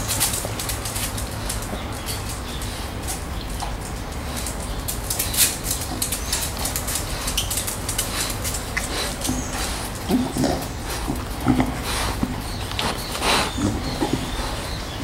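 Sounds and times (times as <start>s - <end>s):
puppy claws clicking on tiles: 0.0s - 14.4s.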